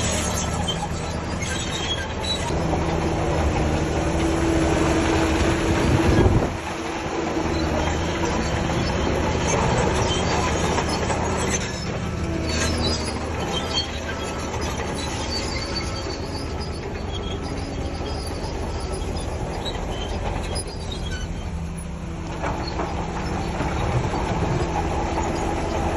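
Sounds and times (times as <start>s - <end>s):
diesel engine under load: 0.0s - 25.9s
steel tracks clanking and squealing: 0.0s - 25.9s.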